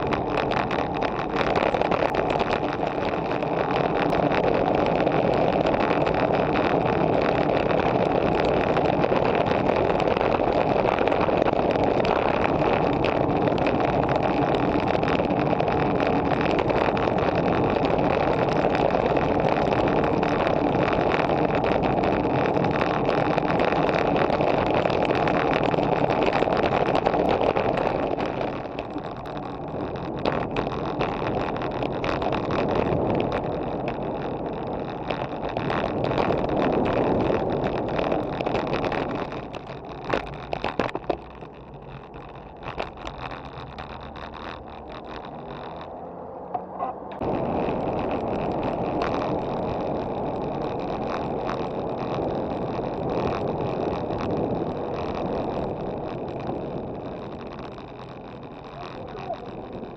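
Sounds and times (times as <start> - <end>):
bike tyre noise on asphalt: 0.0 - 59.9
sharp clicks from bumps: 0.0 - 59.9
wind rushing over microphone: 0.0 - 59.9.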